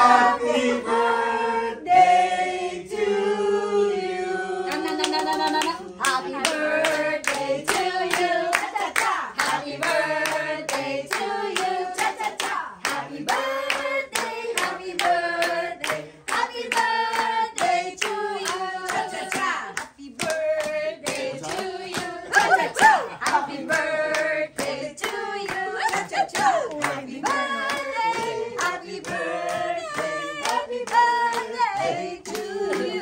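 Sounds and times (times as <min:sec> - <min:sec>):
group singing: 0:00.0 - 0:33.0
hand clapping: 0:04.7 - 0:33.0.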